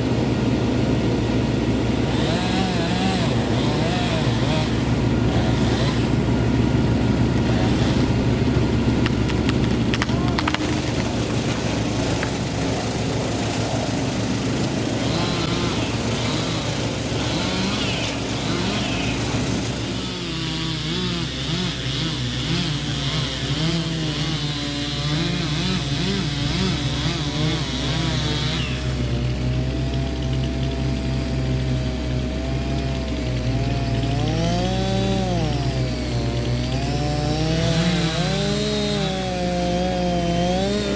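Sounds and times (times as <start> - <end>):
machine engine running: 0.0 - 40.9.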